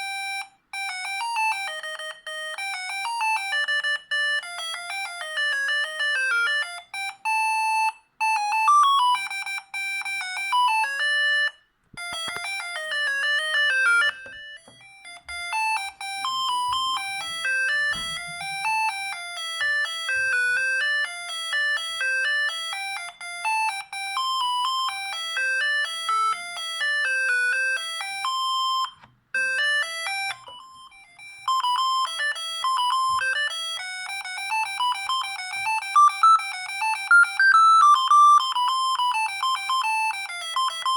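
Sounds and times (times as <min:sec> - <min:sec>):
phone ringtone beeping melody: 0:00.0 - 0:40.9.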